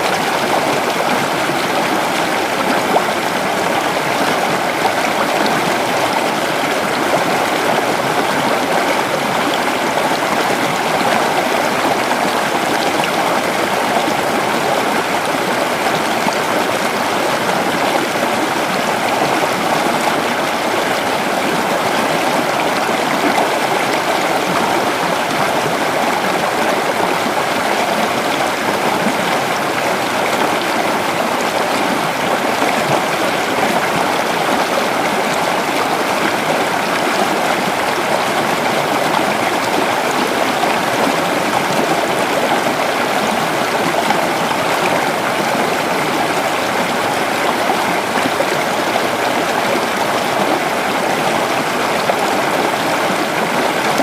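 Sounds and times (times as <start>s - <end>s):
creek water over stones: 0.0s - 54.0s.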